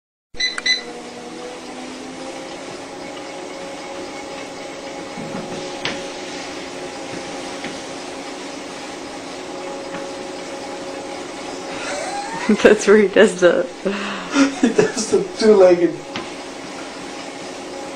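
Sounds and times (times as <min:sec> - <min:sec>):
treadmill motor hum and belt whir: 0:00.4 - 0:17.9.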